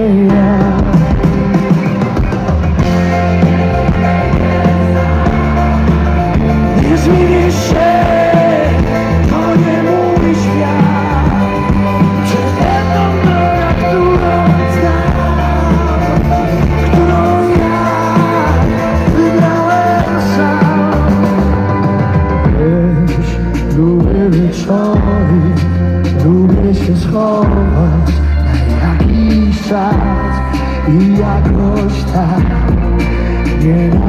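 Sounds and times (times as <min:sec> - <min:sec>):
live rock band playing: 0:00.0 - 0:34.0.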